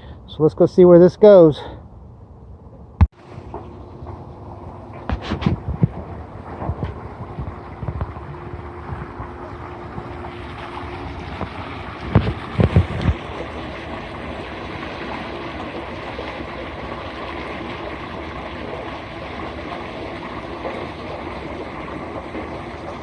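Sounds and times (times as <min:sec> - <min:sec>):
pool pump water rushing: 0:03.2 - 0:23.0.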